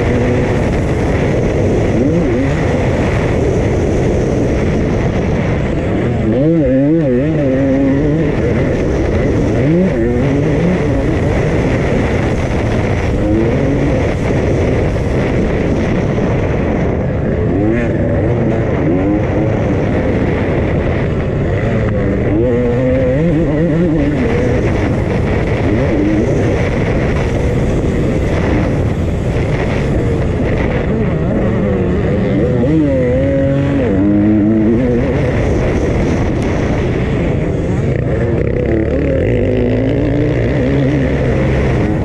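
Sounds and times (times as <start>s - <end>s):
two-stroke motorcycle engine revving: 0.0s - 42.0s.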